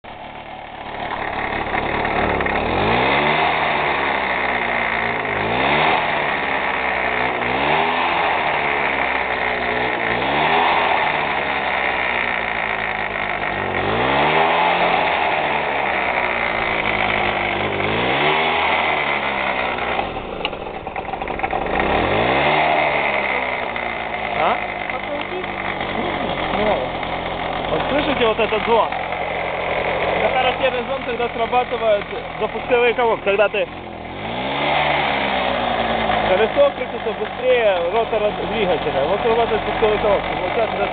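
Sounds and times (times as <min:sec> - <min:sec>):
moped engine revving: 0:00.0 - 0:40.9.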